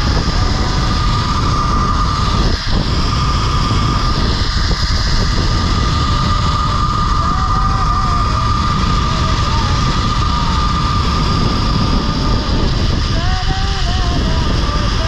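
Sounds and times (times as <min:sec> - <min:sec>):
wind on microphone: 0:00.0 - 0:15.0
zipline trolley whine: 0:00.0 - 0:15.0.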